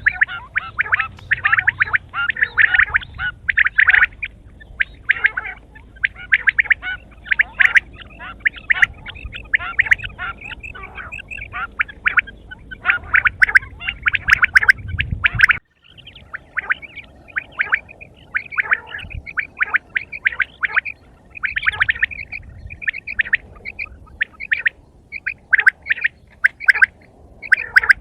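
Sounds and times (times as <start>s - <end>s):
quail calling: 0.0s - 28.0s.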